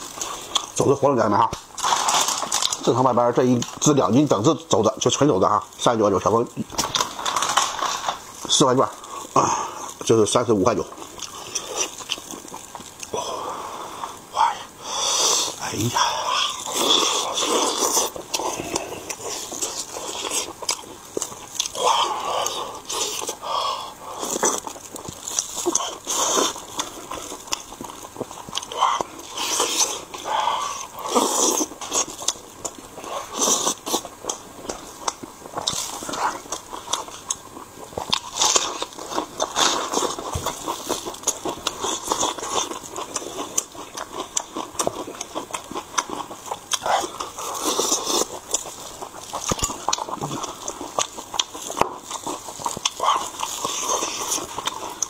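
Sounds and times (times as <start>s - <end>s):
wet chewing and smacking: 0.0s - 13.4s, 15.5s - 55.0s.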